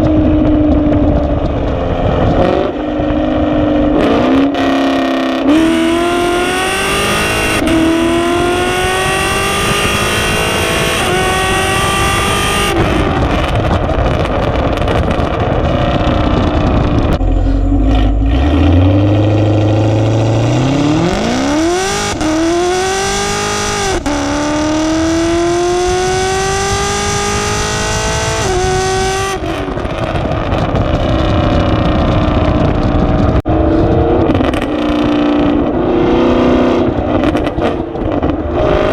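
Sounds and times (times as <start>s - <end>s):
car engine accelerating through gears: 0.0s - 15.1s, 15.7s - 38.9s.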